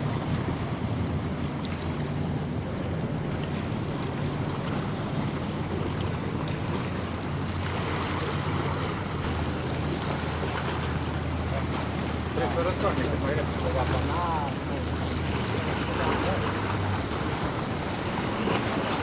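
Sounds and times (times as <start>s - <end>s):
boat engine drone: 0.0s - 19.0s
waves washing: 0.0s - 19.0s.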